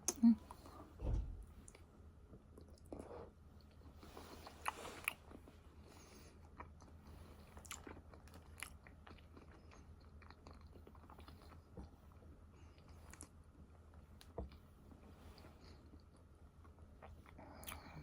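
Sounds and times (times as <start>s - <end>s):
person chewing food: 1.6s - 18.0s.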